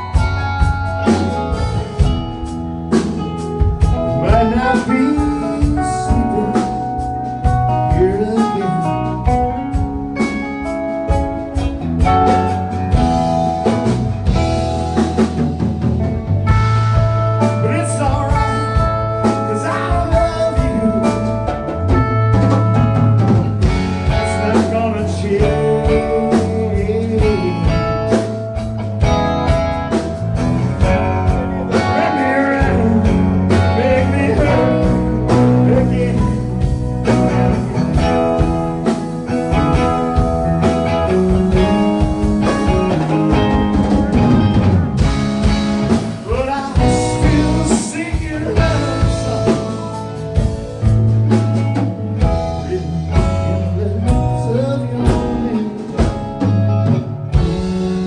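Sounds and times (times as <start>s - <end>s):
bass guitar: 0.0s - 58.0s
drum kit: 0.0s - 58.0s
lead guitar bending notes: 0.0s - 58.0s.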